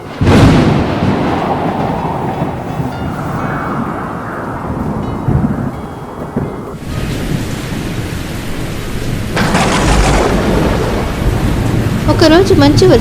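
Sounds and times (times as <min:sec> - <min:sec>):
steady rain hiss: 0:00.0 - 0:13.0
thunderclap with low rumble: 0:00.0 - 0:13.0.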